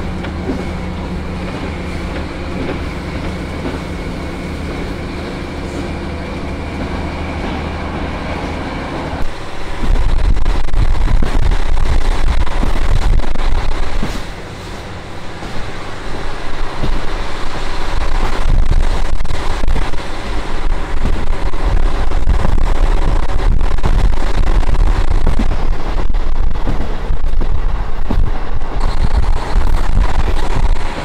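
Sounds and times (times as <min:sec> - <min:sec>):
train wheels rolling on rails: 0:00.0 - 0:31.0.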